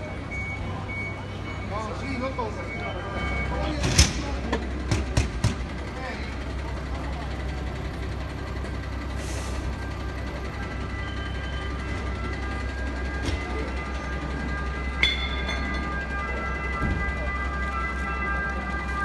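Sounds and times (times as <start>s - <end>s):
diesel engine idling: 0.0s - 19.0s
street crowd noise: 0.0s - 19.0s.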